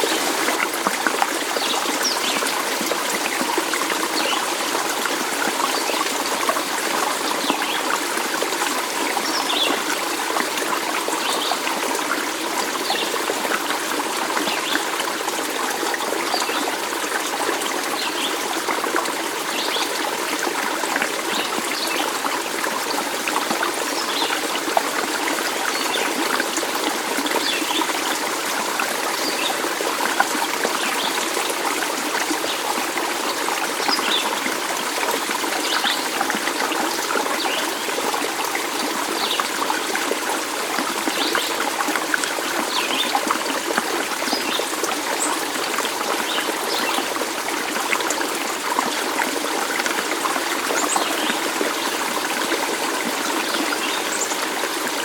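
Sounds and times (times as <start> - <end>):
stream running water: 0.0 - 55.0.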